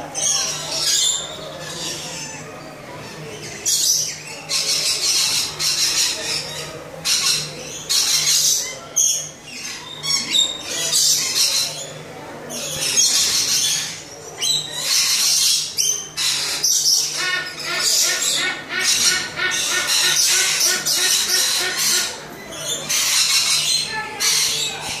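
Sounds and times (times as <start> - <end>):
birds squawking harshly: 0.1 - 25.0.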